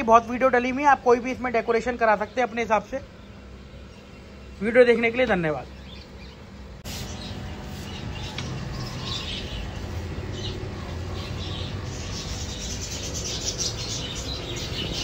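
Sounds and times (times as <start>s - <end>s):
low background hum: 0.0s - 15.0s
small birds chirping: 0.0s - 15.0s.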